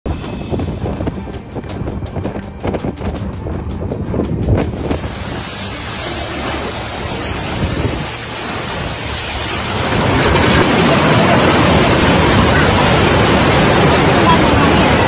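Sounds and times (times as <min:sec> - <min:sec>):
floodwater rushing: 0:00.1 - 0:15.0.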